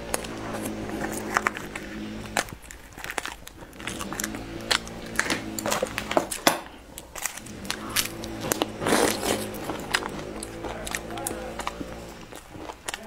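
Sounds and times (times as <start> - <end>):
pastry chewed with crackles: 0.0 - 13.0.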